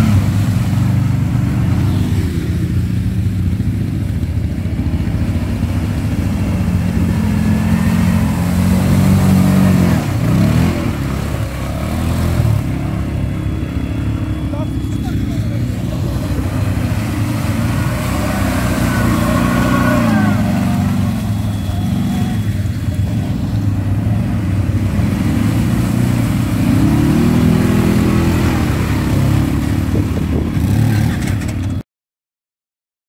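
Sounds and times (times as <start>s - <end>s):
atv engine revving: 0.0s - 31.8s.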